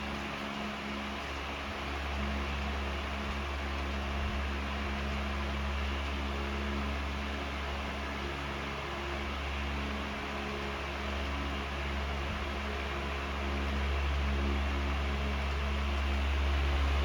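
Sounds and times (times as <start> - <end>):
fan motor hum: 0.0 - 17.0.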